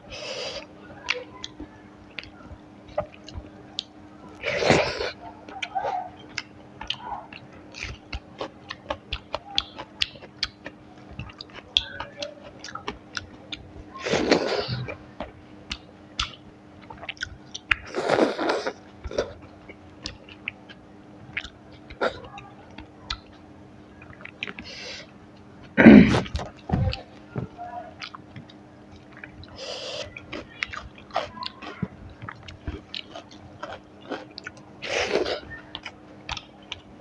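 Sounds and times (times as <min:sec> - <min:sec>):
close-up chewing: 0:00.0 - 0:37.0.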